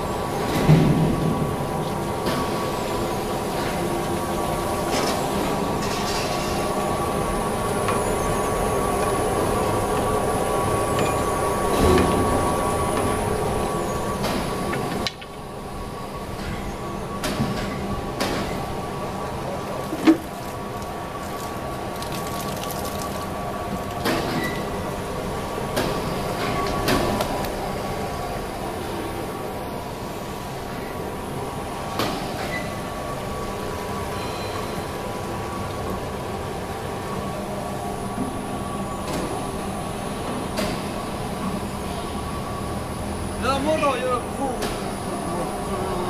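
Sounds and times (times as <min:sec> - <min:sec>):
machine humming and whining: 0:00.0 - 0:46.0.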